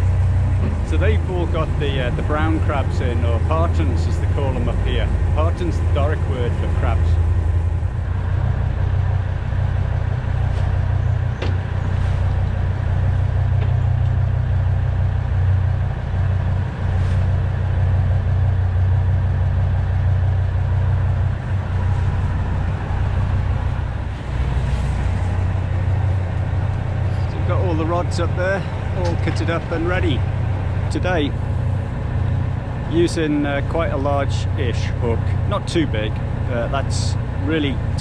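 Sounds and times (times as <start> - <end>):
boat diesel engine running: 0.0 - 38.0.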